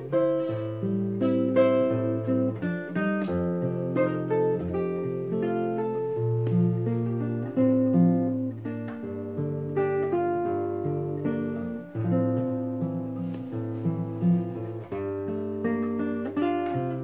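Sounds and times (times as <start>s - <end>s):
fingerstyle classical guitar: 0.0s - 17.0s.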